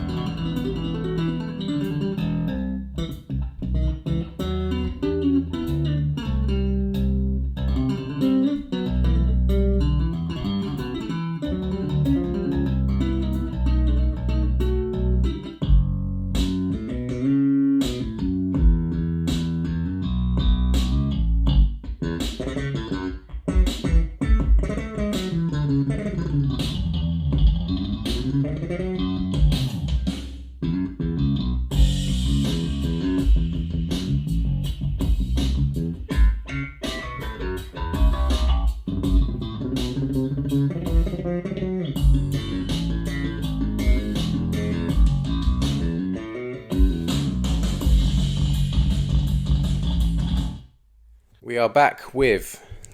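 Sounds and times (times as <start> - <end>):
bass-heavy music: 0.0 - 50.7.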